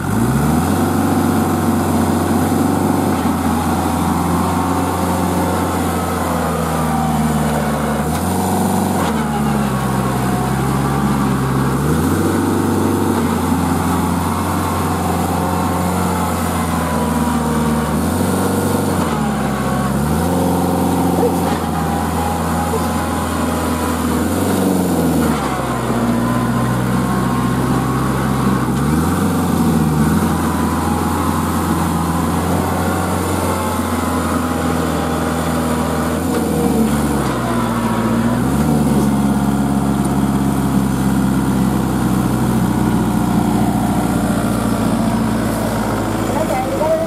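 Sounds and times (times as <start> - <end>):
tractor diesel engine revving: 0.0 - 47.0.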